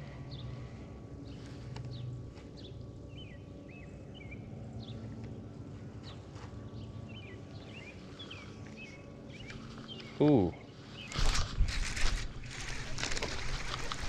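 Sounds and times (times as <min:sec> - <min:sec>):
small birds chirping: 0:00.0 - 0:11.4
low steady rumble: 0:00.0 - 0:14.0.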